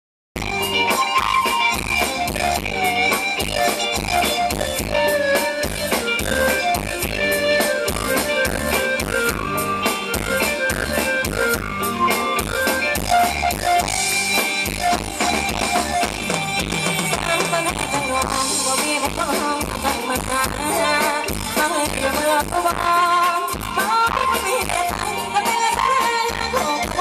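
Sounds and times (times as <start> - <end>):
drum kit beat: 0.4 - 27.0
electric guitar: 0.4 - 27.0.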